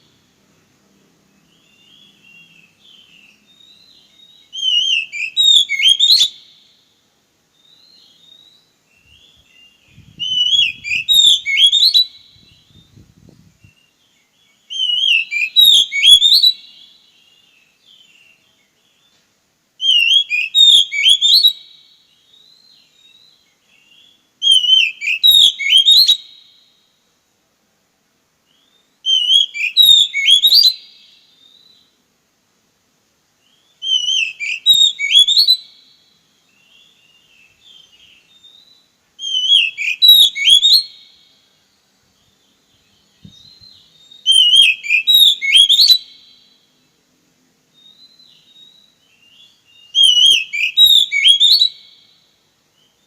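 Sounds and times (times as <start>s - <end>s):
songbird whistling: 1.5s - 6.7s, 7.5s - 19.2s, 19.8s - 26.6s, 28.5s - 31.9s, 33.4s - 41.2s, 42.2s - 46.6s, 47.7s - 53.0s.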